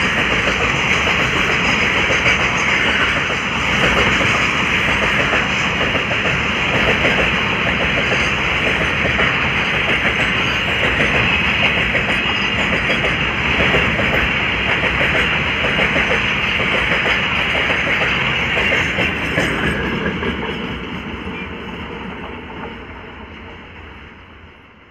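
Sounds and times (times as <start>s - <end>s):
train wheels clattering on rails: 0.0s - 23.6s.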